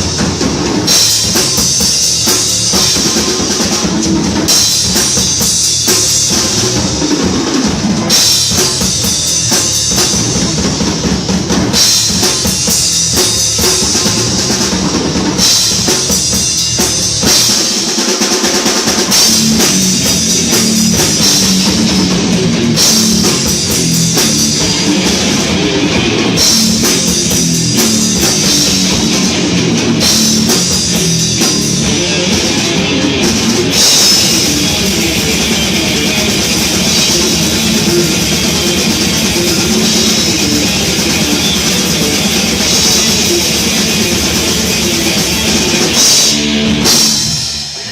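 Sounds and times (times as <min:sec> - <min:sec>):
heavy metal band playing live: 0:00.0 - 0:47.9
pounding bass drum: 0:00.0 - 0:47.9.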